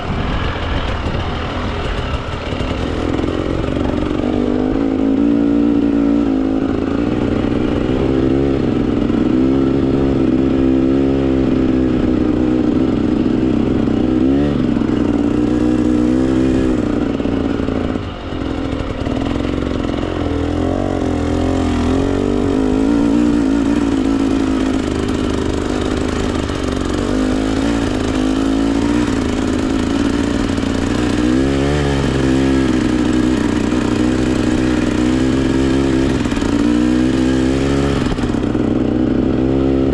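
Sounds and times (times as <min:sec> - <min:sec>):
two-stroke dirt bike engine revving: 0:00.0 - 0:39.9.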